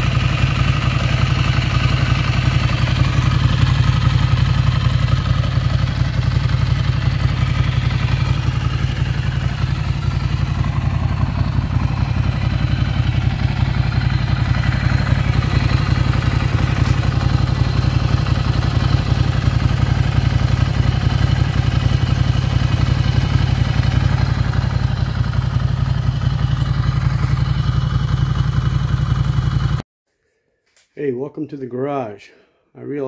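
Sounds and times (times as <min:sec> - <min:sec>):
motorcycle engine idling: 0:00.0 - 0:29.8.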